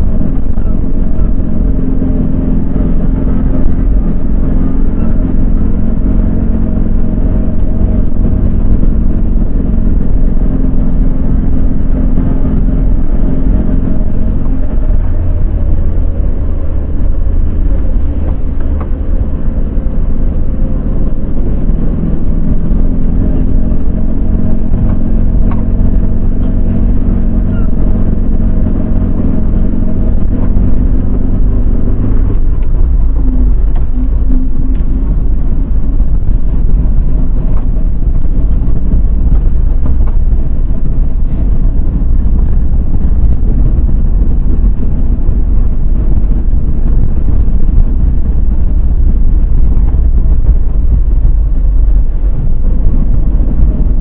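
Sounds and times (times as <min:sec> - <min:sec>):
car engine hum: 0:00.0 - 0:54.0
road rumble inside car: 0:00.0 - 0:54.0.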